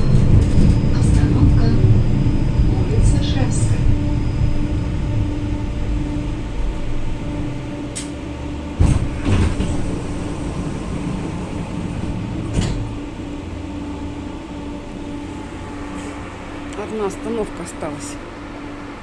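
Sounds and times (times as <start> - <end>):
tram rumble: 0.0 - 19.0.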